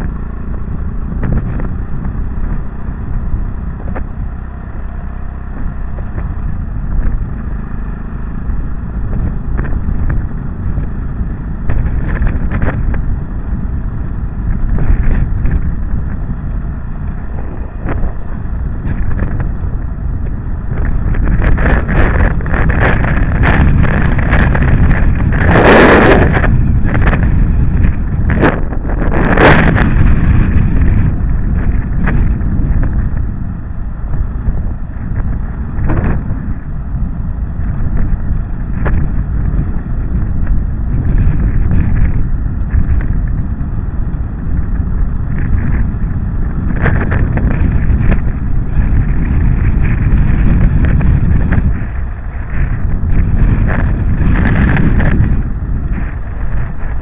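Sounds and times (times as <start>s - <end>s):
motorcycle engine: 0.0s - 57.0s
tyres on gravel: 0.0s - 57.0s
wind on microphone: 0.0s - 57.0s.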